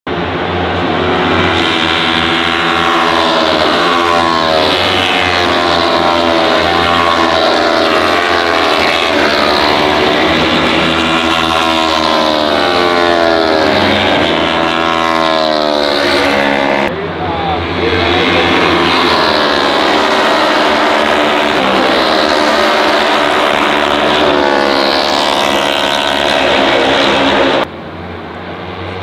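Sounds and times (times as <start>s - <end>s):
racing motorcycle engines: 0.1s - 29.0s.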